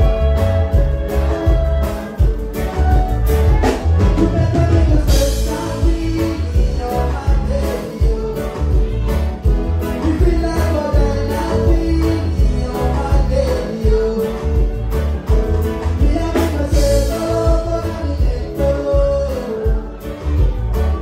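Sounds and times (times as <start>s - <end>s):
band playing bass and drums: 0.0s - 21.0s
man singing through speakers: 4.0s - 21.0s.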